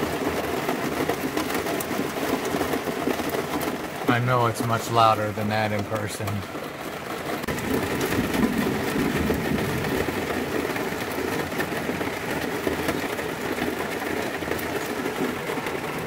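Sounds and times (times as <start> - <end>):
heavy rain drumming on roof: 0.0 - 16.0.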